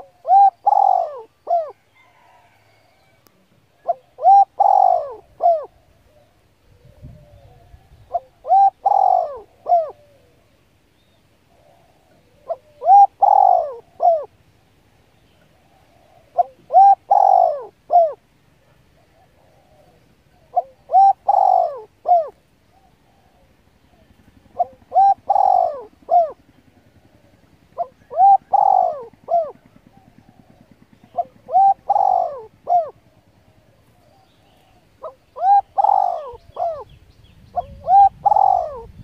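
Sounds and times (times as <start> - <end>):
bird calling: 0.0 - 14.4, 15.2 - 39.0.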